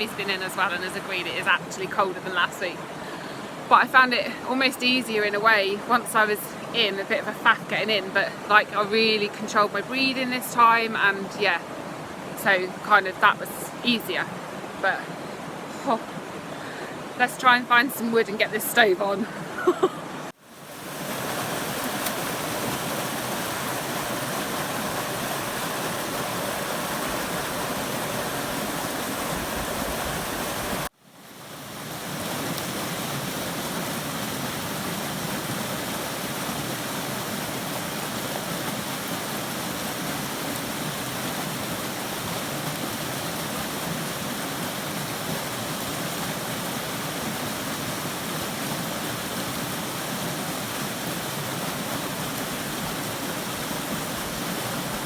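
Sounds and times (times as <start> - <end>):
river rushing over waterfall: 0.0 - 55.0.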